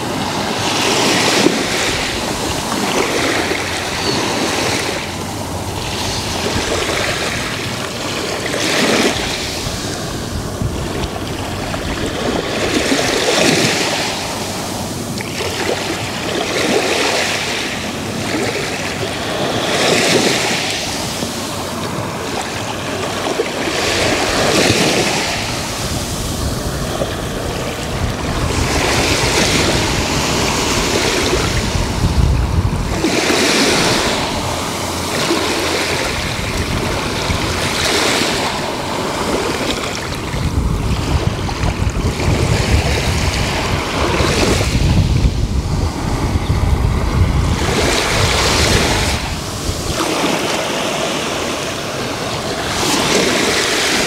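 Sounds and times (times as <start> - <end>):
small waves washing on shore: 0.0 - 54.0
wind rumble on microphone: 0.0 - 54.0.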